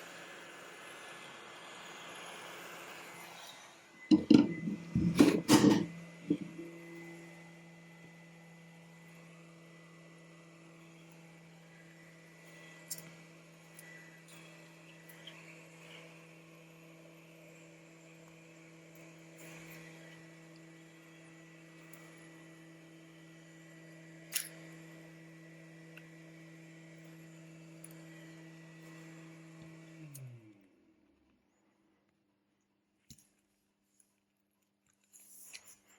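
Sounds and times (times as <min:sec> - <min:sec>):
small electric motor humming: 0:00.0 - 0:30.8.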